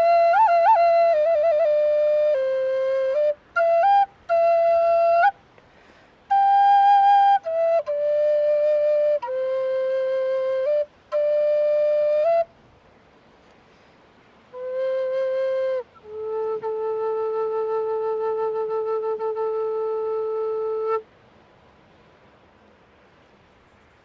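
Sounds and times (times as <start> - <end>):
flute playing slow melody: 0.0 - 12.6, 14.4 - 21.1.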